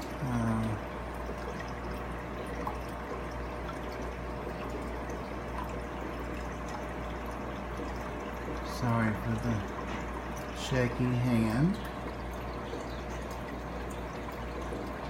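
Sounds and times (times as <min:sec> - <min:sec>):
low steady hum: 0:00.0 - 0:15.0
water trickling in aquarium: 0:00.0 - 0:15.0.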